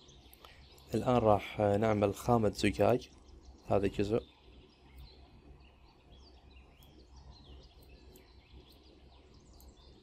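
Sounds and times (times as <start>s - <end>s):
faint high chirps: 0.0s - 10.0s
low room hum: 0.0s - 10.0s.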